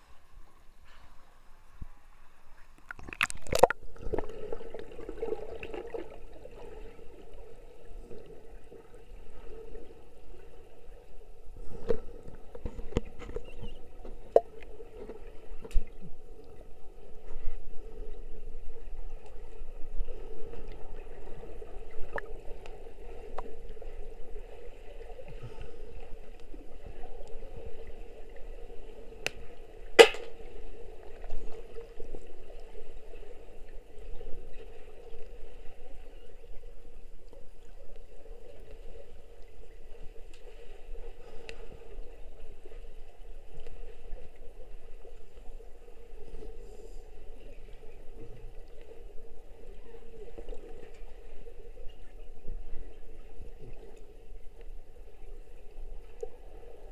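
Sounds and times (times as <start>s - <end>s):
muffled underwater hum: 0.0s - 56.9s.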